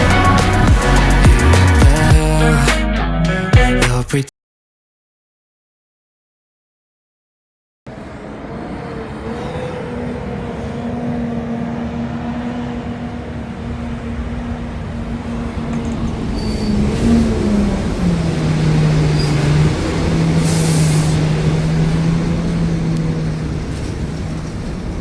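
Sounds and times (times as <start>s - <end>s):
bus diesel engine running: 0.0s - 4.1s, 7.9s - 25.0s.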